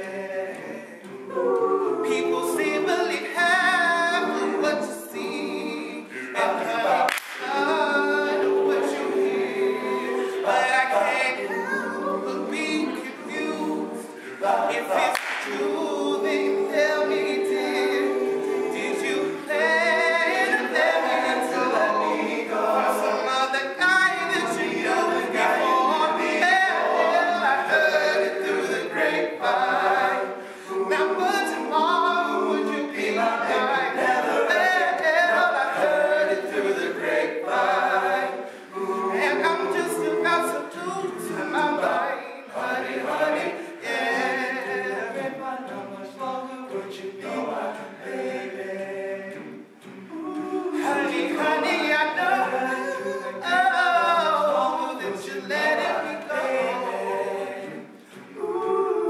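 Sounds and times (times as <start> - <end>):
male a cappella group singing: 0.0 - 59.0.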